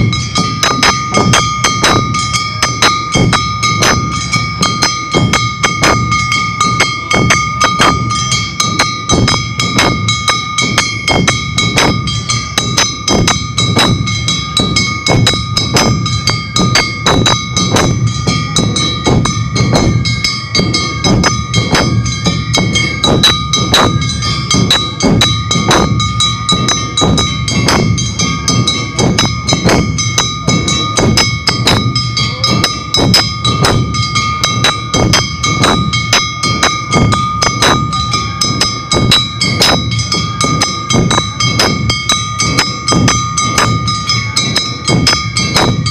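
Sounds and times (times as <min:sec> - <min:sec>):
drums and percussion fast beat: 0:00.0 - 0:45.9
high ringing tones: 0:00.0 - 0:45.9.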